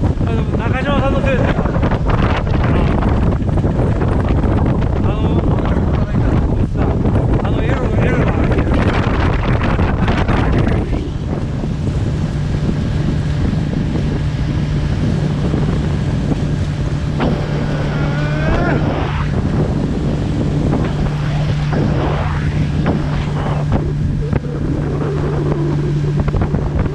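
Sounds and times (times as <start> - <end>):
boat engine running: 0.0 - 26.9
wind buffeting microphone: 0.0 - 26.9
water splashing around hull: 1.3 - 26.9.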